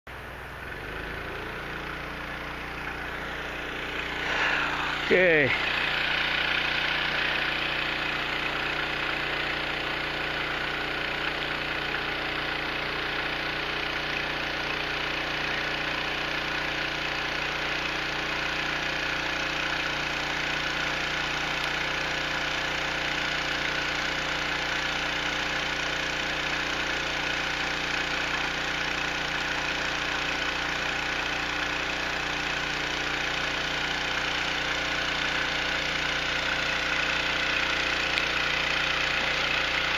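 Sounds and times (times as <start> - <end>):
dredge engine running: 0.1 - 39.9.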